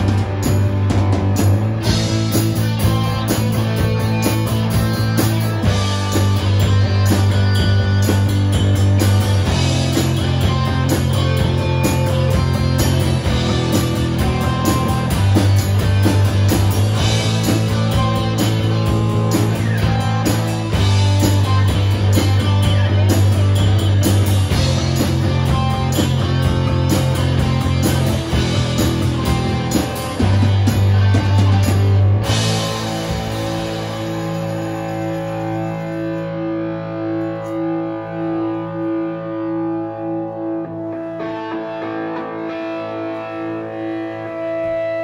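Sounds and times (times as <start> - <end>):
electric bass note: 0.0 - 41.4
rock band playing live: 0.0 - 45.0
distorted electric guitar chord: 1.6 - 45.0.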